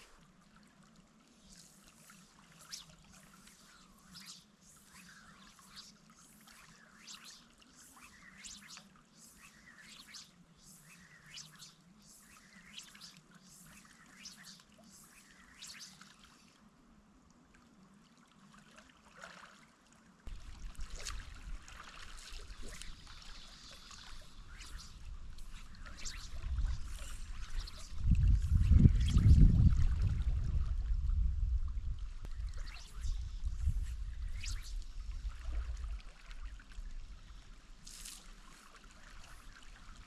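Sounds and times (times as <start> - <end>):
river water trickling and splashing: 0.0 - 40.0.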